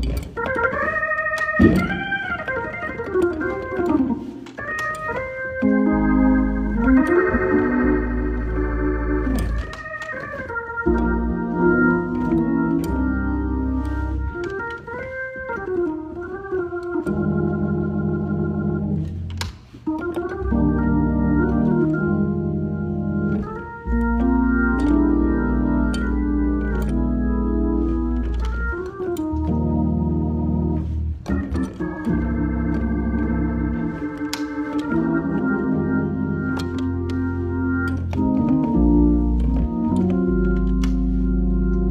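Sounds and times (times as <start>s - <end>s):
gospel organ chords: 0.0s - 41.9s.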